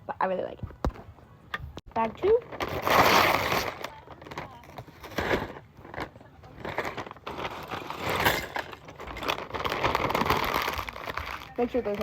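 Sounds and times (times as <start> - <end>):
plastic bag crinkling: 2.0 - 12.0.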